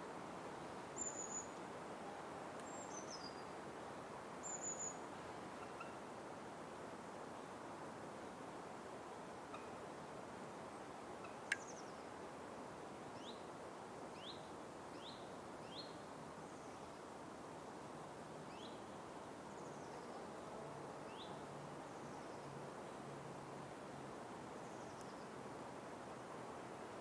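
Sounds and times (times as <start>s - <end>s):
steady background hiss: 0.0s - 27.0s.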